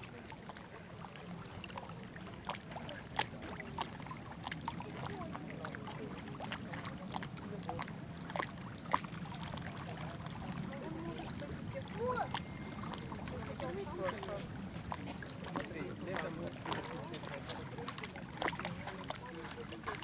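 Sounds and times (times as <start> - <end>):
lake water lapping at shore: 0.0 - 20.0.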